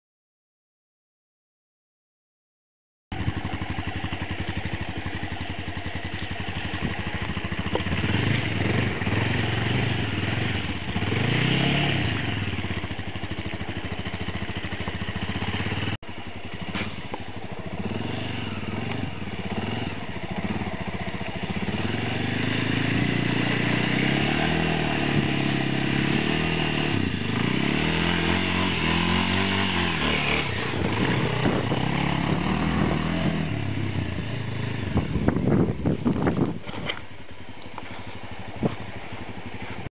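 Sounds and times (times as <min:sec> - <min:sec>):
motorcycle engine revving: 0:03.1 - 0:39.9.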